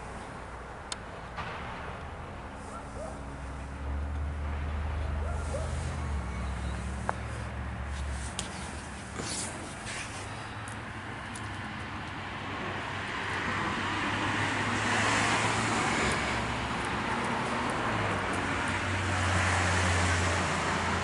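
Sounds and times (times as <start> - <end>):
steady outdoor rushing noise: 0.0 - 21.0.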